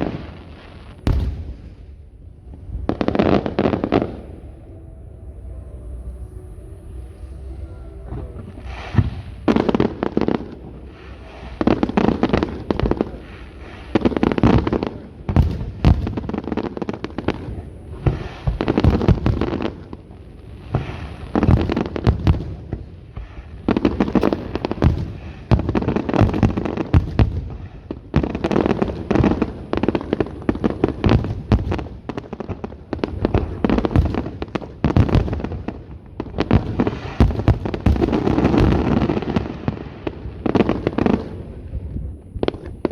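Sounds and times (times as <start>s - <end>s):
fireworks bangs and crackling: 0.0s - 4.6s, 8.0s - 42.9s.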